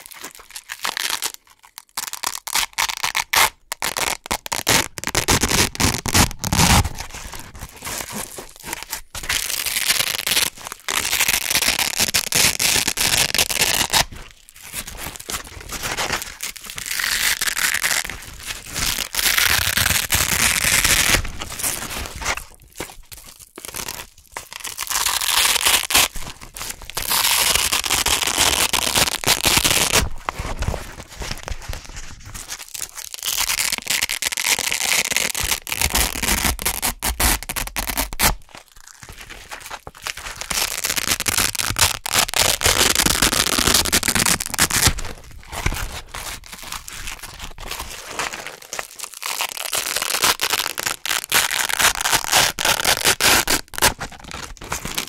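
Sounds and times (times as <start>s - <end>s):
velcro ripping apart: 0.0s - 31.6s, 32.5s - 55.0s.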